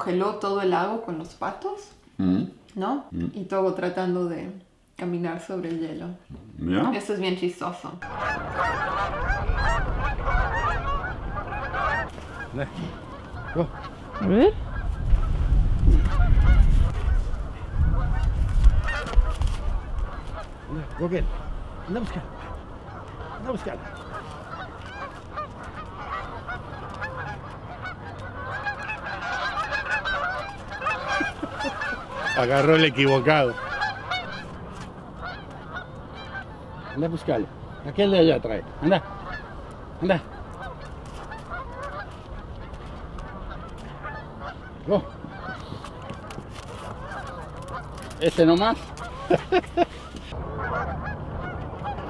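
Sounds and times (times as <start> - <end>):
geese honking: 8.0 - 52.0.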